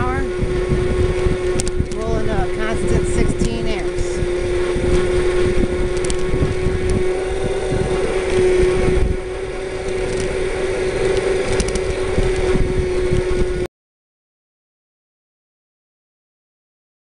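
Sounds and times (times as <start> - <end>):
electric motor whine: 0.0 - 13.7
tyre and wind rumble: 0.0 - 13.7.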